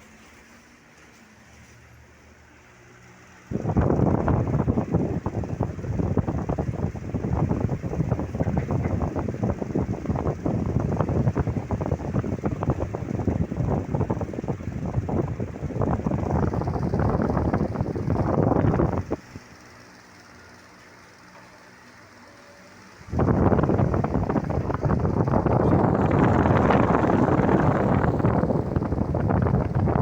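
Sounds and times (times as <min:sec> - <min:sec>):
wall fan running: 0:00.0 - 0:30.0
airflow buffeting microphone: 0:03.4 - 0:30.0.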